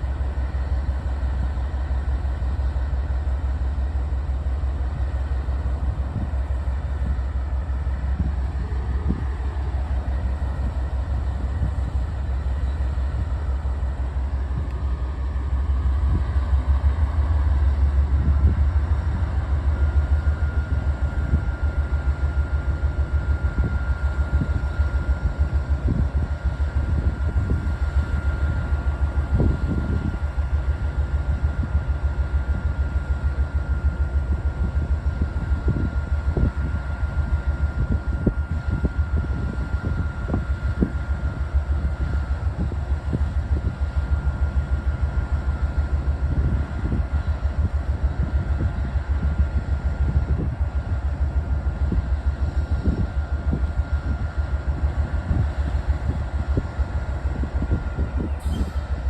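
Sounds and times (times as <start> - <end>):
train rumbling with knocks: 0.0 - 59.0.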